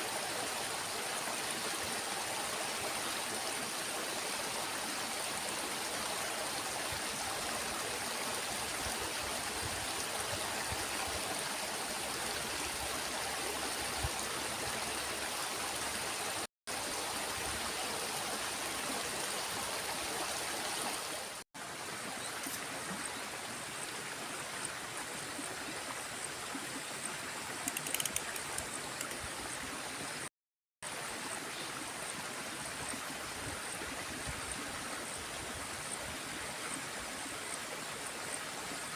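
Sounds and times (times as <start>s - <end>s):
small stream flowing: 0.0s - 38.9s.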